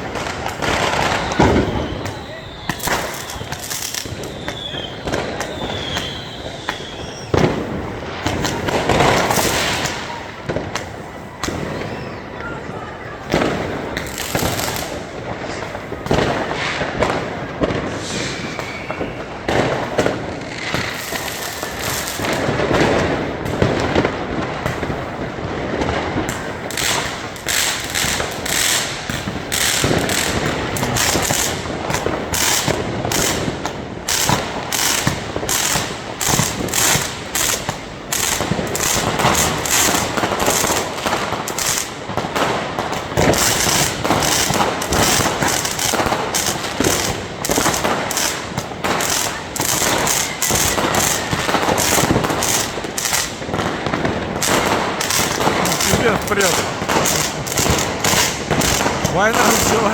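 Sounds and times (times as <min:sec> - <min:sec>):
firecrackers crackling: 0:00.0 - 0:59.9
fireworks bangs and booms: 0:00.0 - 0:59.9.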